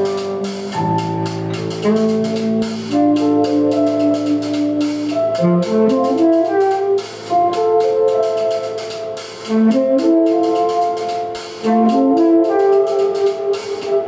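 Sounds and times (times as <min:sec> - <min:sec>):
saxophone: 0:00.0 - 0:14.0
steady clicking beat: 0:00.0 - 0:14.0.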